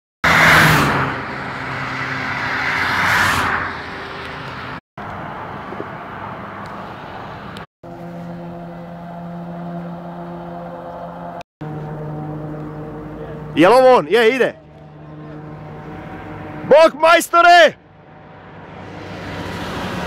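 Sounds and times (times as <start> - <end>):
car passing close: 0.2 - 20.0
steady traffic noise: 0.2 - 20.0.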